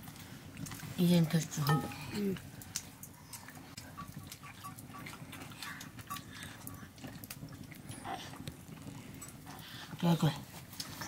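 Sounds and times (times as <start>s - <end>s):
chewing: 0.0s - 1.0s, 1.6s - 11.0s.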